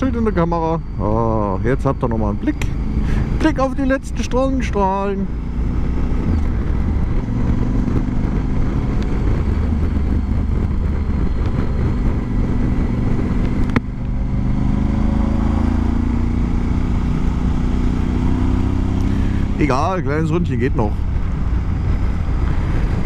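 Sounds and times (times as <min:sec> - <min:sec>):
motorcycle engine running: 0:00.0 - 0:23.0
wind noise: 0:00.0 - 0:23.0.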